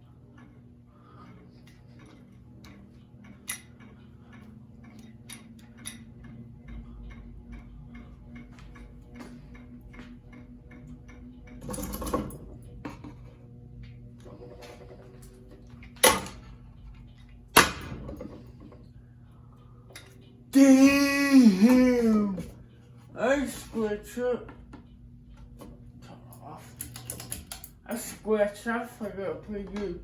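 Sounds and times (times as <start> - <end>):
ceiling fan motor hum: 0.0 - 30.0
fan rapid ticking: 0.0 - 30.0.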